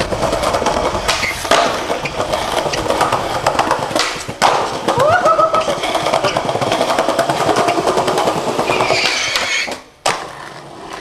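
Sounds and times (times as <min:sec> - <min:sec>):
skateboard landing clack: 0:00.0 - 0:11.0
skateboard wheels rolling: 0:00.0 - 0:11.0.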